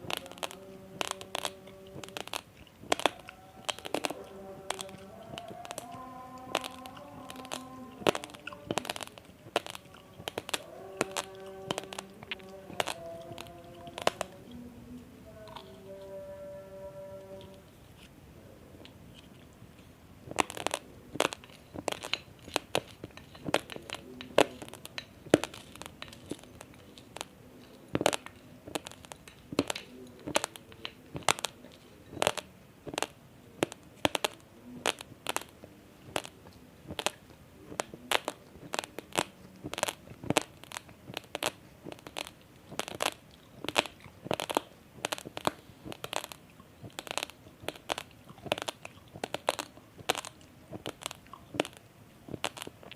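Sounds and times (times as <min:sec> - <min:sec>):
rice grains crunching between teeth: 0:00.0 - 0:14.6, 0:20.3 - 0:52.9.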